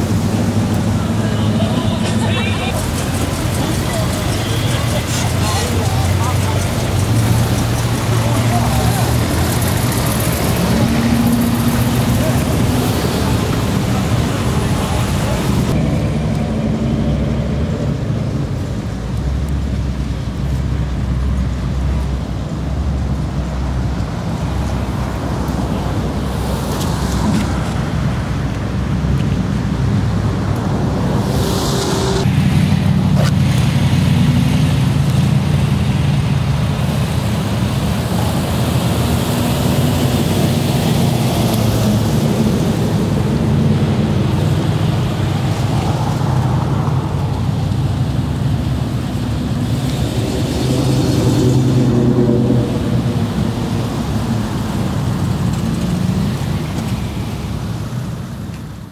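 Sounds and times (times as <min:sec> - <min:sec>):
car engines driving away: 0:00.0 - 0:58.9.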